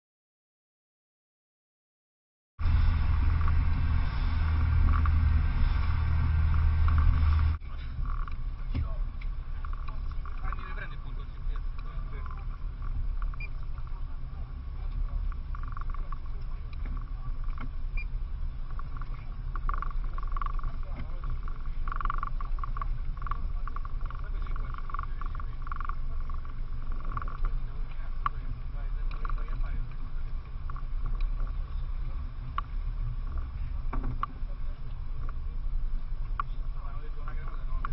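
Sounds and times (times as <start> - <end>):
boat motor rumble: 2.6 - 37.9
water noise: 2.6 - 37.9
wind noise: 2.6 - 37.9.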